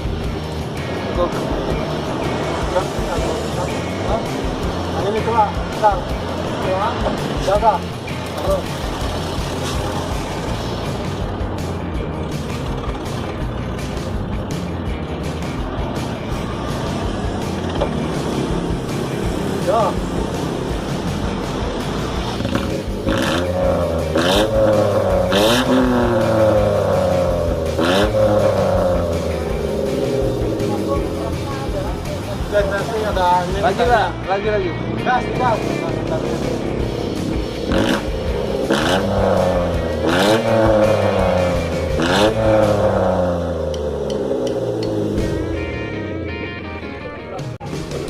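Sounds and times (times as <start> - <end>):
car engine idling and revving: 0.0 - 46.8, 47.4 - 48.0.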